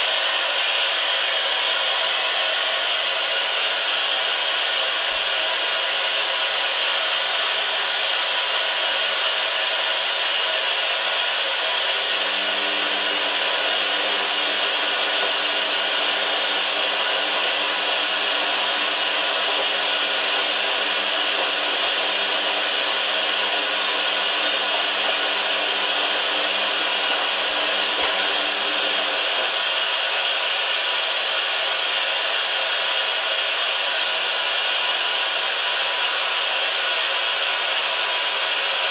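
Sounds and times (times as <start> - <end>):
washing machine hissing: 0.0 - 38.9.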